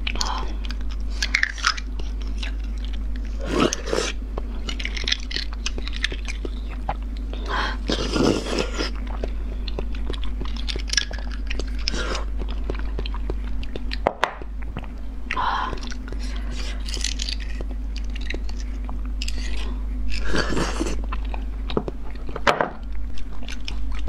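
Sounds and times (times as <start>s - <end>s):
steady low hum: 0.0s - 24.0s
wet chewing and sucking: 0.0s - 24.0s.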